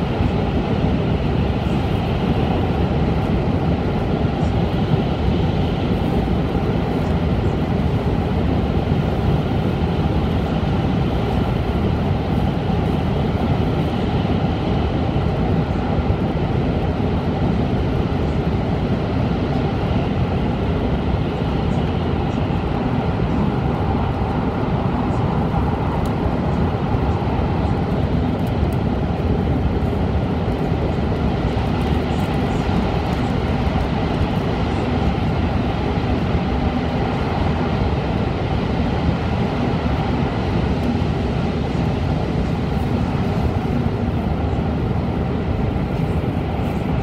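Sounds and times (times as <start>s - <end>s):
train cabin running rumble: 0.0s - 47.0s.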